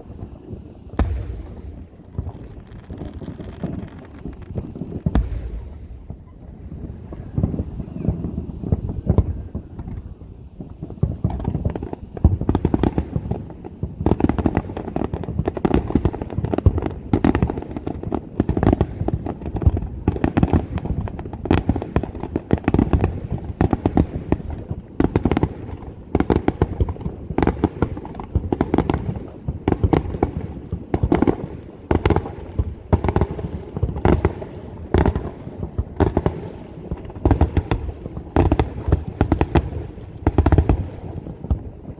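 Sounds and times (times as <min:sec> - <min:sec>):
fireworks bursts booming: 0:00.0 - 0:41.9.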